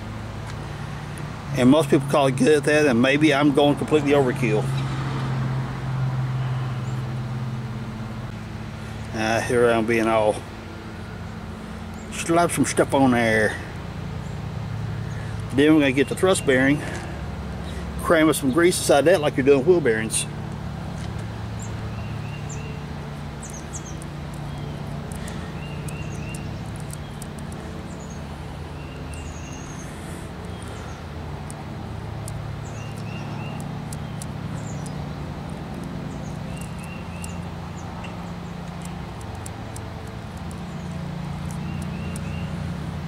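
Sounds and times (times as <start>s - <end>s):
birds chirping: 6.1s - 43.0s.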